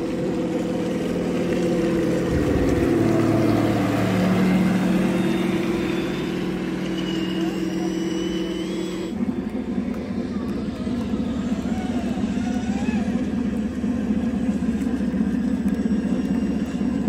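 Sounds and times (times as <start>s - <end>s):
electric motor humming: 0.0s - 17.0s
engine-like low rumble: 0.0s - 17.0s.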